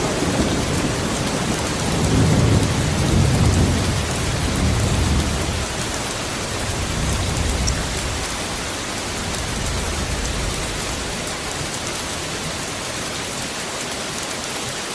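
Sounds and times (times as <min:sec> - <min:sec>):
low thunder rumble: 0:00.0 - 0:12.6
steady rain hiss: 0:00.0 - 0:14.9.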